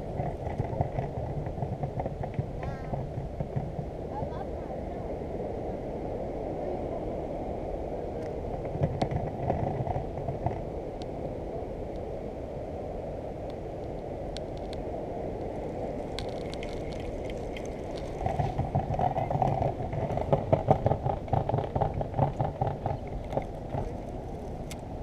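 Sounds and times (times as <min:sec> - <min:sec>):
sea: 0:00.0 - 0:25.0
wind: 0:00.0 - 0:25.0.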